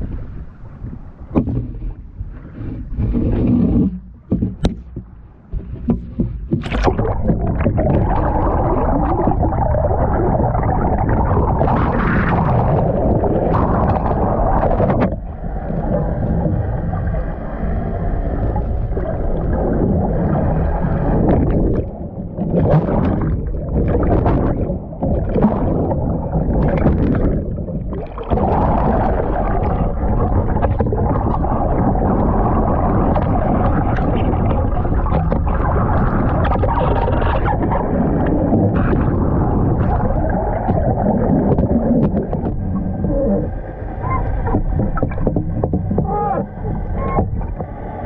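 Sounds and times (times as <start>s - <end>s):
muffled underwater water rush: 0.0s - 48.0s
underwater gurgling bubbles: 5.5s - 48.0s.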